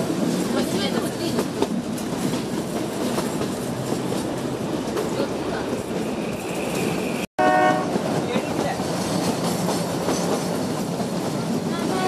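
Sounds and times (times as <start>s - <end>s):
train rumble with wheel clatter: 0.0s - 12.0s.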